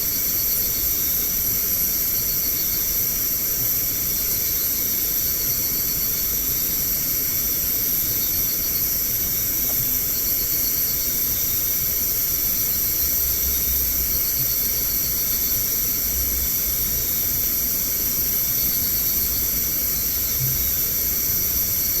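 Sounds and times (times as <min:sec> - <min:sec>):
night insects chirping: 0:00.0 - 0:22.0.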